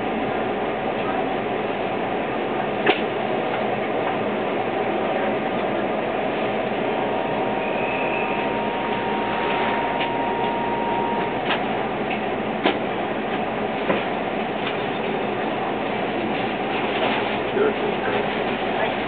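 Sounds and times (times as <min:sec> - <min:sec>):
train equipment hiss and hum: 0:00.0 - 0:19.0.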